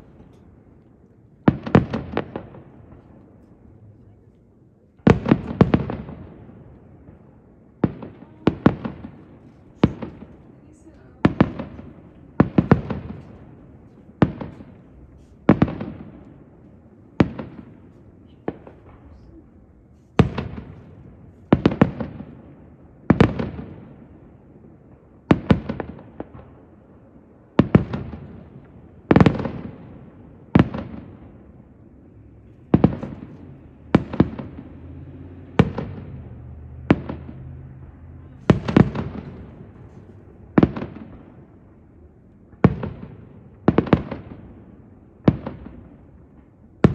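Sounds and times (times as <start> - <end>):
distant fireworks booming: 0.0 - 4.0, 4.9 - 46.9.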